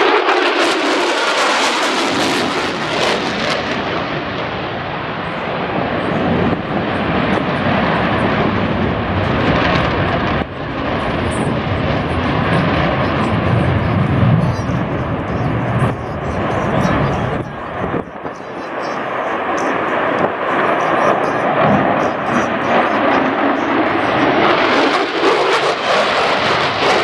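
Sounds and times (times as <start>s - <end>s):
jet flying by: 0.0s - 27.0s.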